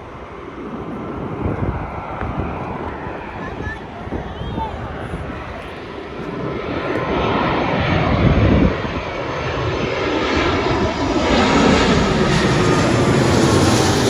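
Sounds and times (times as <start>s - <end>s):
airliner jet engines rumbling: 0.0s - 14.0s.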